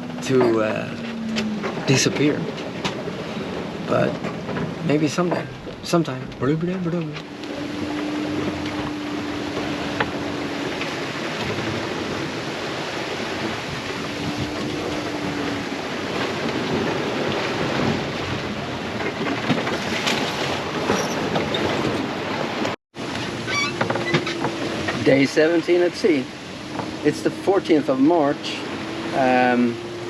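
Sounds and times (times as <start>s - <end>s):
strong wind and waves: 0.0s - 30.0s
wind buffeting microphone: 0.0s - 30.0s.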